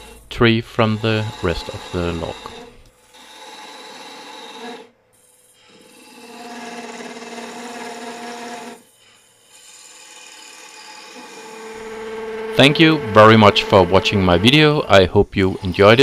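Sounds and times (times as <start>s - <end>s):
lathe humming: 0.0s - 16.0s
lathe tool scraping wood: 0.0s - 16.0s.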